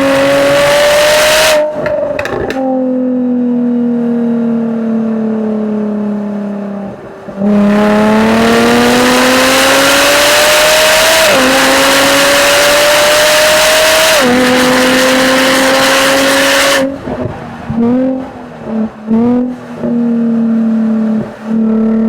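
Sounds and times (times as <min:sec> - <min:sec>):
car exhaust accelerating: 0:00.0 - 0:22.0.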